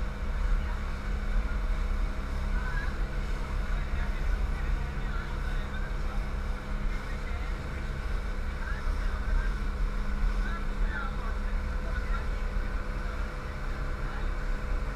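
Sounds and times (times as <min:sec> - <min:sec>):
motorboat engine running: 0:00.0 - 0:14.9
faint voices: 0:00.1 - 0:14.9.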